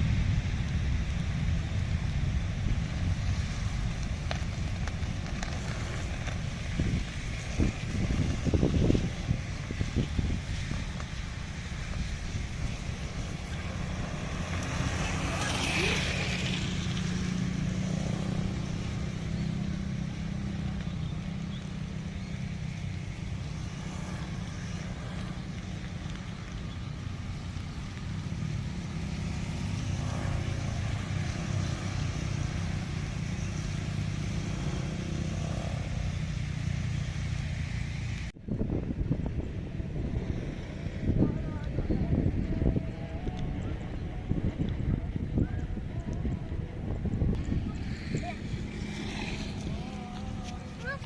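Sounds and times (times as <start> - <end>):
jet engines rumbling: 0.0 - 51.0
wind buffeting microphone: 0.0 - 51.0.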